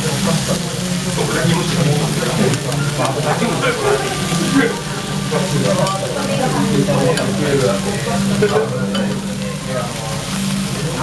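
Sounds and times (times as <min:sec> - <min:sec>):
batter sizzling on a griddle: 0:00.0 - 0:11.0.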